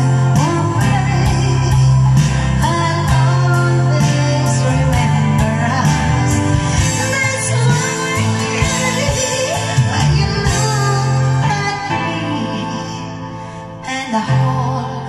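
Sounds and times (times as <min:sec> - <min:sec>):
backing track with steady beat: 0:00.0 - 0:13.4
woman singing karaoke: 0:00.0 - 0:15.0.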